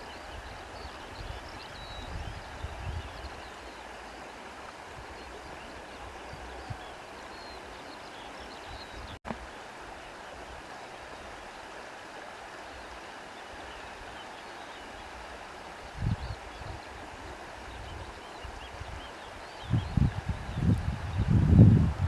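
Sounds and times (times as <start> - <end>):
stream flowing: 0.0 - 22.0.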